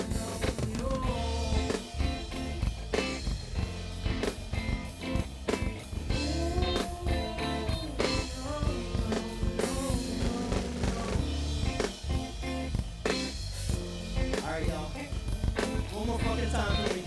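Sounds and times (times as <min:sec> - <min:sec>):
drum kit beat: 0:00.0 - 0:17.0
live band playing hip-hop groove: 0:00.0 - 0:17.0
melodic guitar line: 0:00.0 - 0:17.0.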